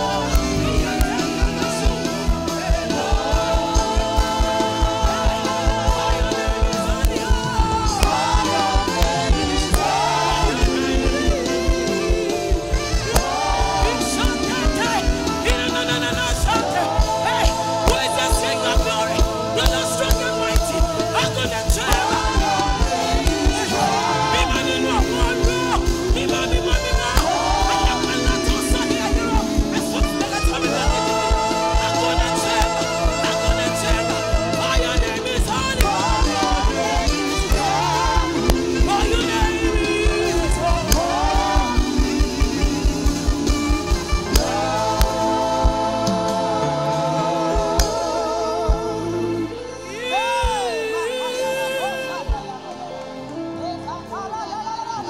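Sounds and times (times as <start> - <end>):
band with steady drumbeat: 0.0 - 49.4.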